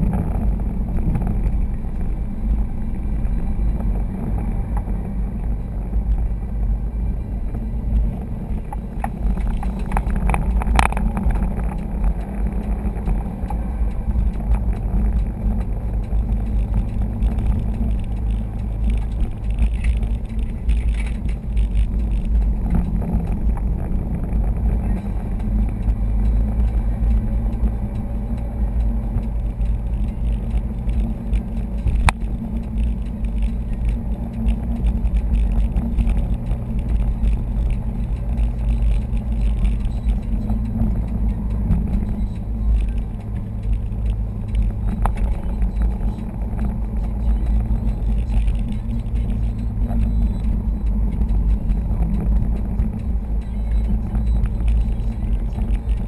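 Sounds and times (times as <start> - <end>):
car engine drone: 0.0 - 56.0
tyres on the road: 0.0 - 56.0
sharp clicks: 7.9 - 56.0.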